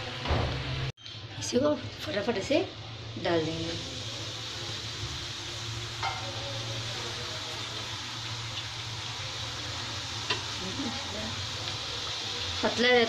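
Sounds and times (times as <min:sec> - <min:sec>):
dough deep-frying in oil: 0:00.0 - 0:13.0.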